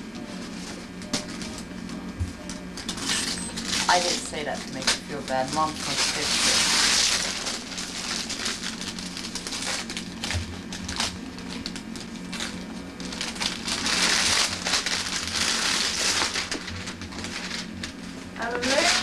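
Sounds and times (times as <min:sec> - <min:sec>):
wrapping paper crinkling and tearing: 0:02.8 - 0:19.0.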